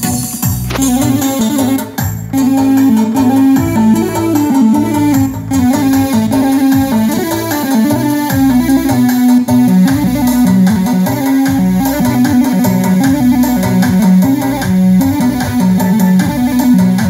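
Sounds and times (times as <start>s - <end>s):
keyboard melody: 0.0s - 17.0s
rhythmic accompaniment: 0.0s - 17.0s
low bass line: 0.4s - 7.3s, 8.3s - 17.0s.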